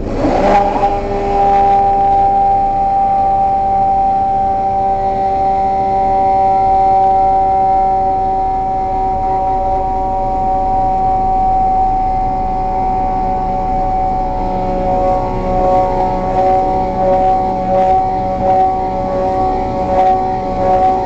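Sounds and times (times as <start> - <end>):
immersion blender motor whine: 0.0 - 21.0.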